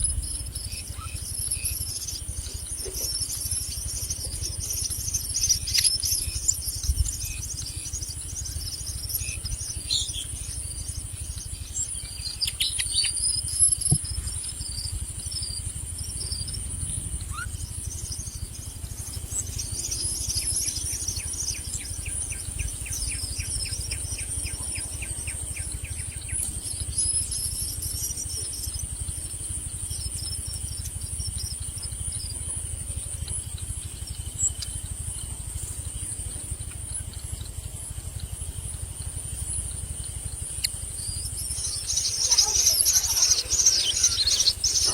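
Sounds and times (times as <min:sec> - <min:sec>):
birds chirping: 0:00.0 - 0:44.9
high-pitched insect drone: 0:00.0 - 0:44.9
rapid ticking calls: 0:00.0 - 0:44.9.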